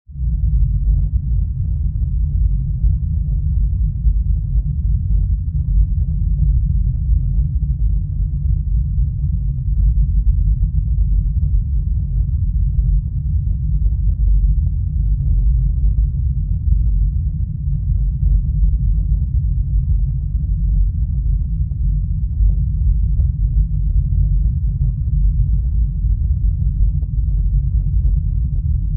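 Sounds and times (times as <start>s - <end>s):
deep low rumble: 0.0s - 28.9s.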